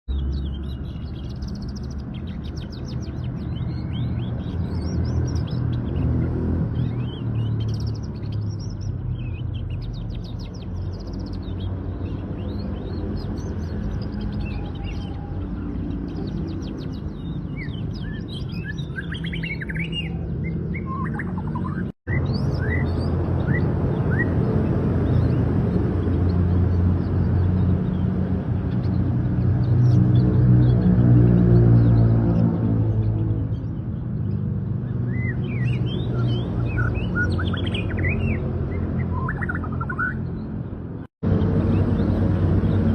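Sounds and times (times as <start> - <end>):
canary singing trills and chirps: 0.1 - 42.9.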